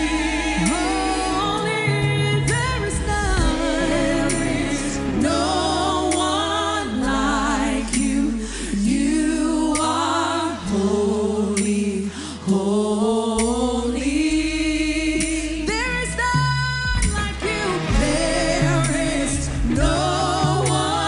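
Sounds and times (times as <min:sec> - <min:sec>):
person singing with vibrato: 0:00.0 - 0:21.0
sustained low bass chords: 0:00.0 - 0:21.0.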